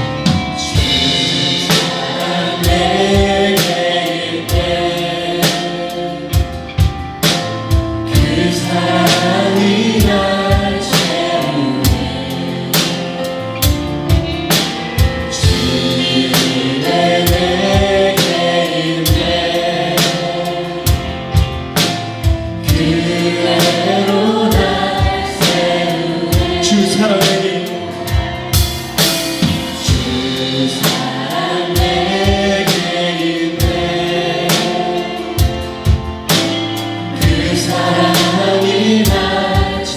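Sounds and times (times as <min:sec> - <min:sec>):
steady drum beat: 0:00.0 - 0:39.9
worship band and singers: 0:00.0 - 0:39.9.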